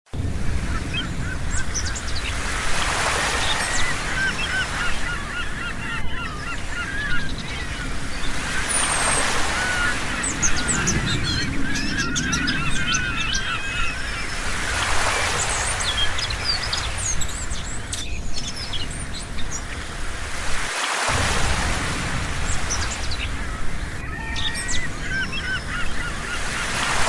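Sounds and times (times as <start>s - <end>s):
surf washing onto beach: 0.2s - 27.0s
birds honking: 0.6s - 16.9s, 21.2s - 27.0s.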